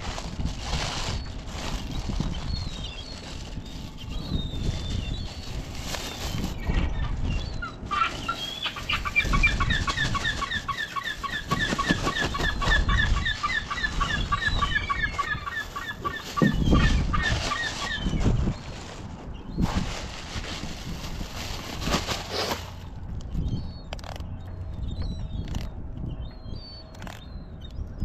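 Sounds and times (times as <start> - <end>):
plastic bags rustling: 0.0 - 22.9.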